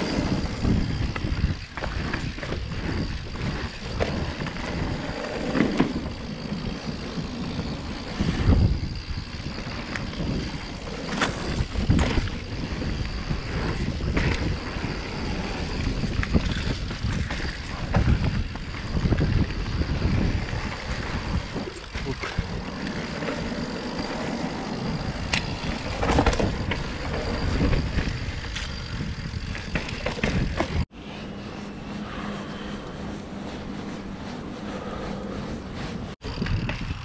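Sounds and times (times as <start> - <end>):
bike rattling: 0.0 - 31.8, 32.5 - 37.0
low hum: 0.0 - 37.0
tyres rumbling on trail: 0.0 - 37.0
wind buffeting microphone: 0.0 - 37.0.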